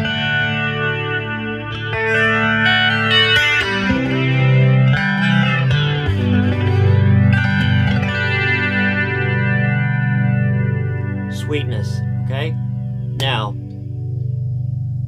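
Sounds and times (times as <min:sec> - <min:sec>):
clean electric guitar chords: 0:00.0 - 0:15.0.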